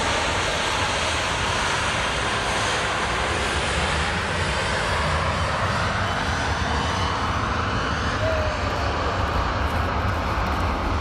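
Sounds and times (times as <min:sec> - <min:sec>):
airliner jet engines: 0:00.0 - 0:11.0.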